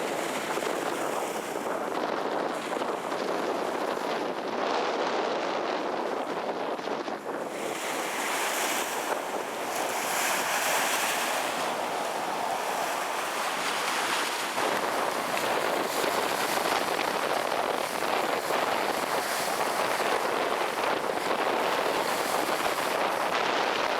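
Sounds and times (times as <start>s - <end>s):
storm wind and surf rushing: 0.0s - 23.9s
wind buffeting microphone: 0.0s - 23.9s.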